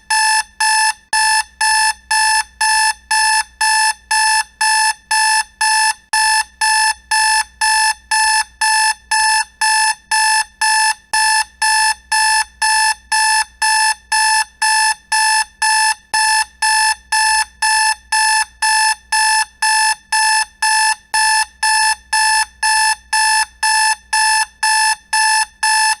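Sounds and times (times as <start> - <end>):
alarm clock beeping: 0.1 - 26.0.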